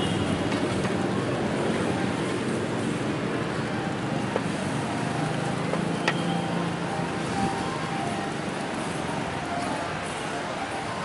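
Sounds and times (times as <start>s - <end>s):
passing street traffic: 0.0s - 11.0s.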